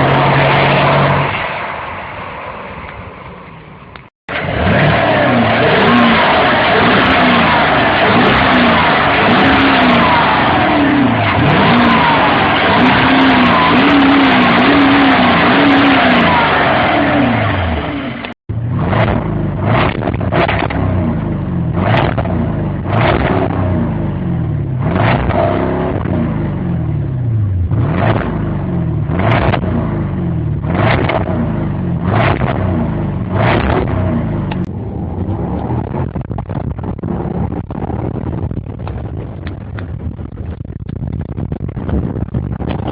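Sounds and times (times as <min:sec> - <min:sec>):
car engine accelerating: 0:00.0 - 0:02.2, 0:03.9 - 0:42.9.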